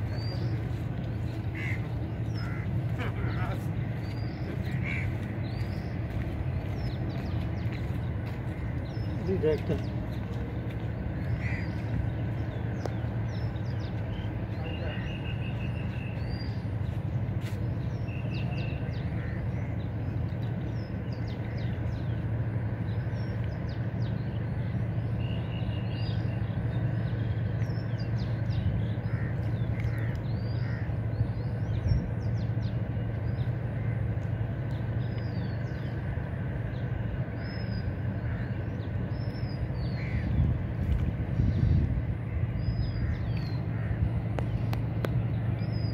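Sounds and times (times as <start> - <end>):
birds chirping: 0.0 - 45.9
steady low hum: 0.0 - 45.9.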